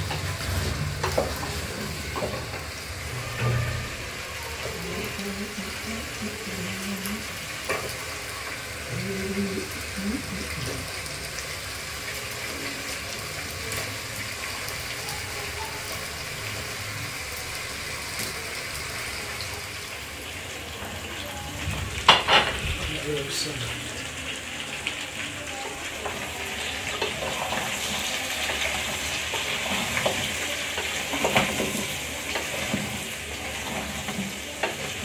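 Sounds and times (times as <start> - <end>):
watery kitchen hiss: 0.0 - 35.0.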